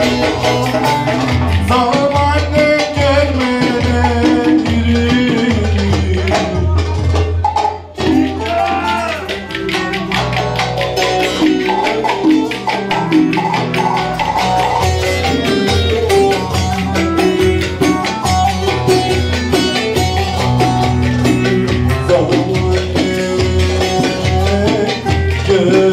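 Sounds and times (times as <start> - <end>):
fast percussion beat: 0.0 - 25.9
plucked string folk melody: 0.0 - 25.9.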